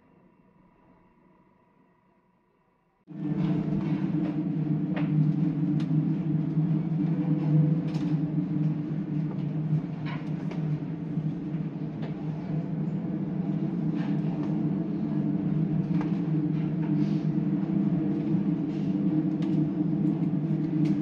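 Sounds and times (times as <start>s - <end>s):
low drone of ship engines: 0.0s - 21.0s.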